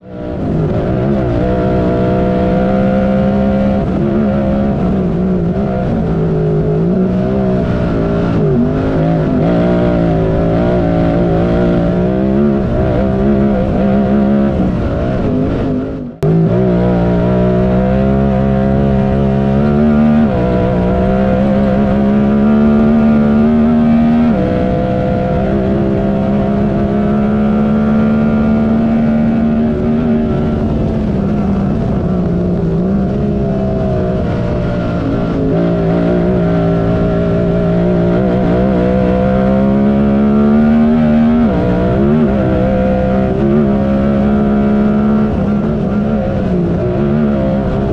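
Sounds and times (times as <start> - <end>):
engine running at high rev: 0.0 - 47.9.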